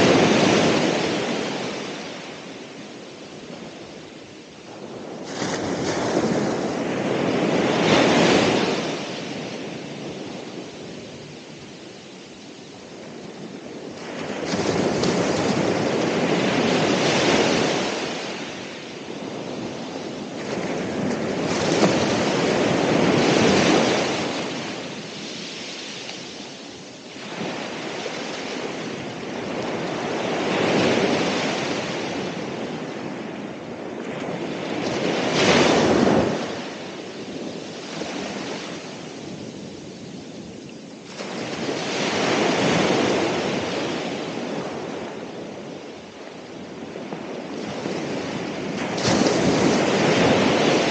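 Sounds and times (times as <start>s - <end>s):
ocean waves breaking on shore: 0.0s - 50.9s.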